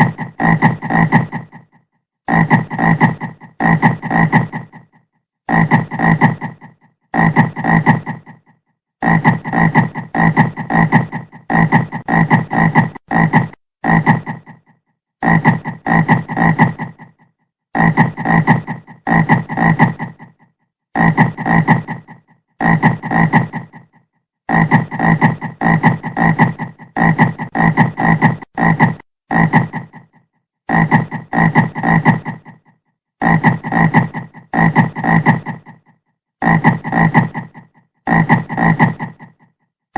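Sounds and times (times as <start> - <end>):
frog croaking: 0.0 - 17.1, 24.5 - 39.5.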